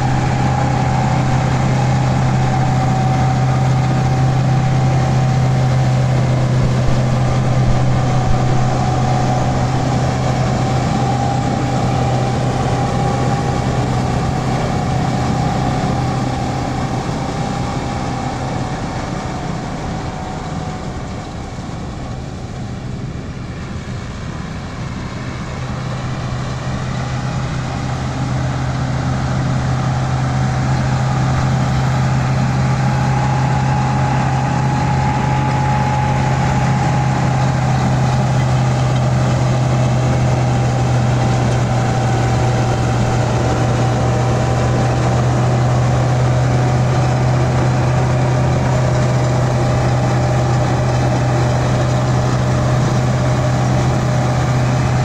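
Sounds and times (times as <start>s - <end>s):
straw chopper whine: 0.0s - 21.5s, 25.0s - 55.0s
tractor engine hum: 0.0s - 55.0s.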